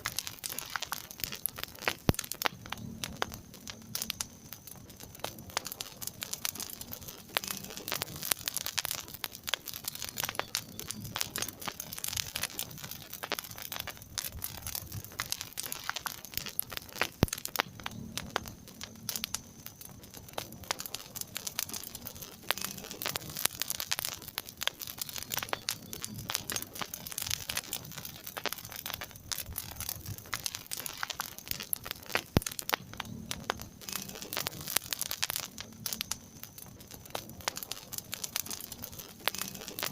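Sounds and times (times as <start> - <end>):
sharp fire pops: 0.0 - 39.9
wood fire crackling: 0.0 - 39.9.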